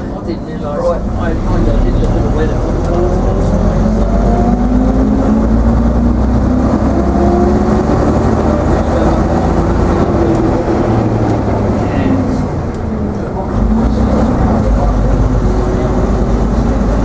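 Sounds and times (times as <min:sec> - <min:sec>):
diesel bus engine under load: 0:00.0 - 0:17.0.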